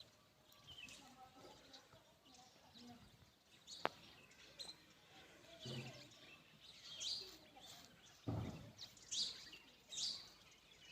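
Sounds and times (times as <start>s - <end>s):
small birds chirping: 0.0s - 10.9s.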